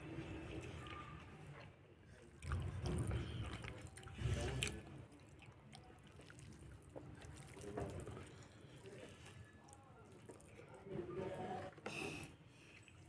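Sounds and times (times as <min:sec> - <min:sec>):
wet chewing sounds: 0:00.0 - 0:10.9, 0:12.1 - 0:13.0.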